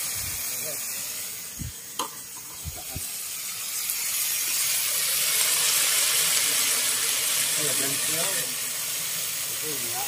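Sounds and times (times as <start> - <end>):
snails sizzling in wok: 0.0 - 10.0.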